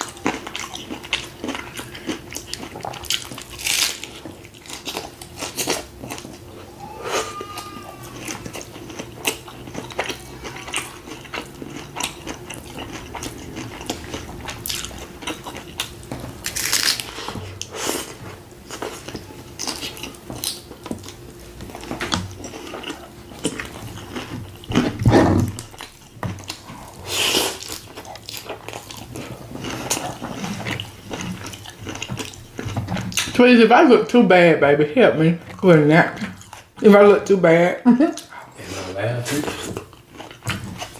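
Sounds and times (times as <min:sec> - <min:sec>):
person chewing taco: 0:00.0 - 0:33.4, 0:35.4 - 0:36.8, 0:38.1 - 0:40.9.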